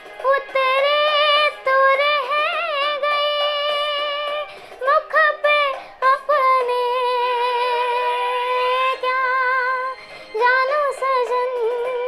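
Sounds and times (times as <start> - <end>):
girl singing: 0.0 - 12.0.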